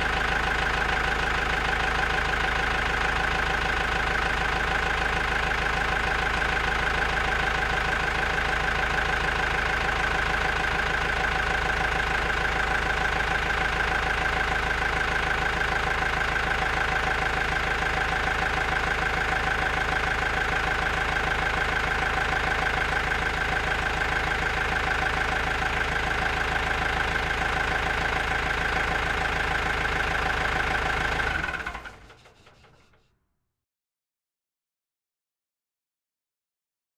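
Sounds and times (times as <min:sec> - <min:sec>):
tractor engine idling: 0:00.0 - 0:33.1.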